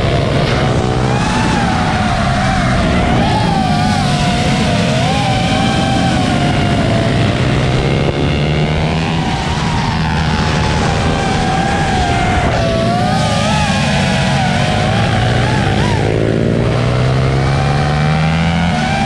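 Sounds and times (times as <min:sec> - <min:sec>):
high-pitched motor whine: 0:00.0 - 0:19.0.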